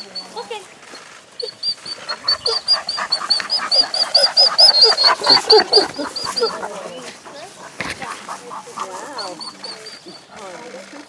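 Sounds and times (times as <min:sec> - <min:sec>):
wolves whining and squeaking: 0:00.0 - 0:10.6.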